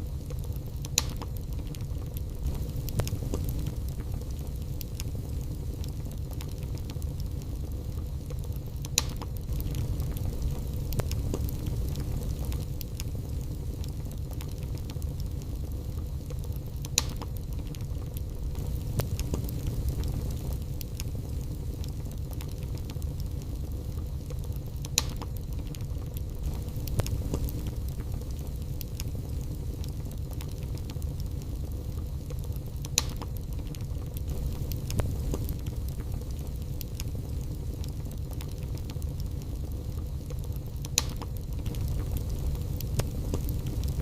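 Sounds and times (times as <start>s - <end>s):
fire crackles: 0.0s - 44.0s
fire low rumble: 0.0s - 44.0s.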